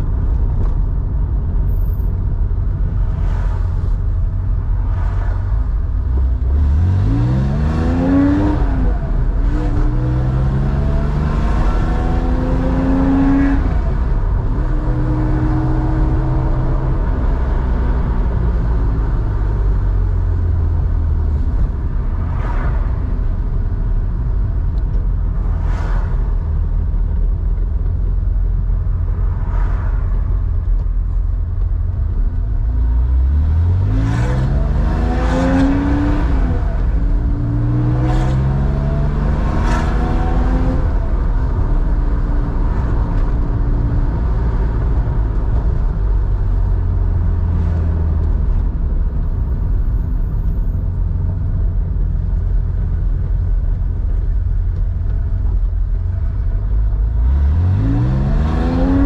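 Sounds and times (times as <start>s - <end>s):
car engine accelerating: 0.0s - 59.0s
road rumble: 0.0s - 59.0s.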